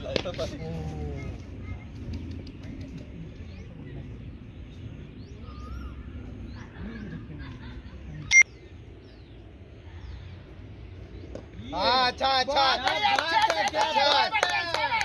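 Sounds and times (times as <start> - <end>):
small birds chirping: 0.0 - 12.8
open-air ambience: 0.0 - 15.0.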